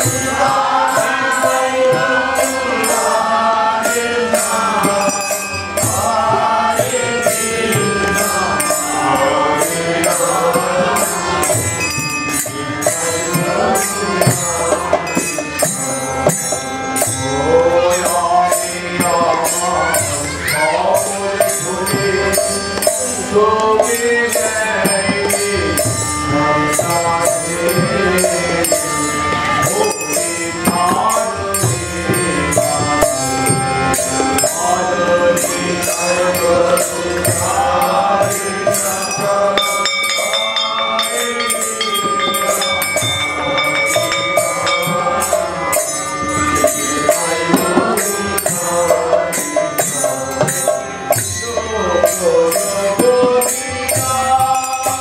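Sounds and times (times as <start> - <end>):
voices singing: 0.0 - 55.0.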